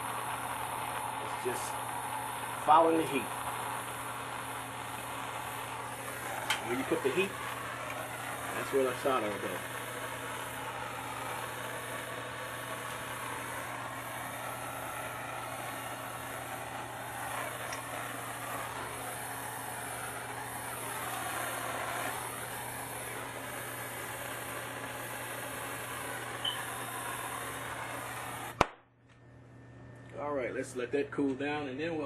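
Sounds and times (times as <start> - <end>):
gas torch hissing: 0.0 - 28.7.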